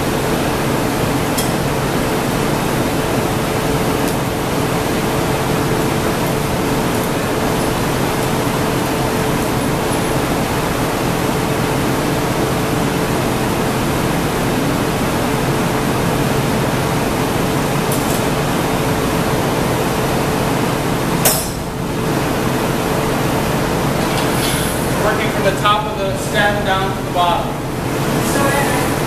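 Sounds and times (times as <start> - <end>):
cooling fans running: 0.0 - 29.0
gas burners roaring: 0.0 - 29.0.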